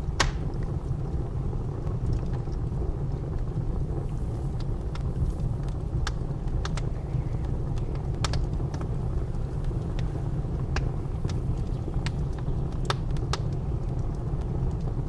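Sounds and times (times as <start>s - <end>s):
blizzard wind rumbling: 0.0s - 15.0s
wood fire crackling: 0.0s - 15.0s.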